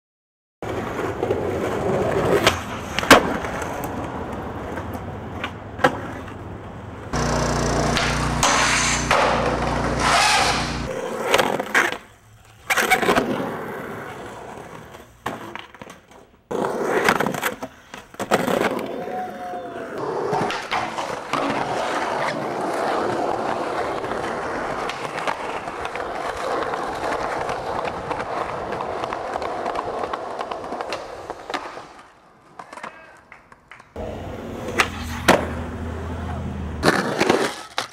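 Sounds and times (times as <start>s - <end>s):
skateboard clacks: 0.6s - 13.5s, 14.1s - 35.6s, 36.3s - 37.9s
skateboard wheels rolling on concrete: 0.6s - 37.9s.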